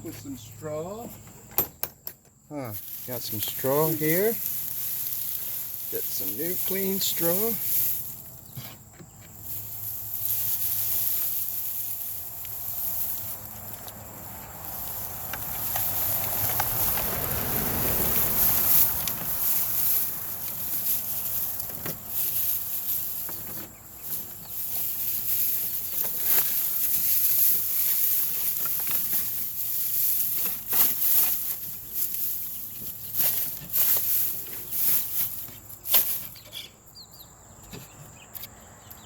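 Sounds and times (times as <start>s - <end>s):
dry straw rustling and crackling: 2.5s - 36.6s.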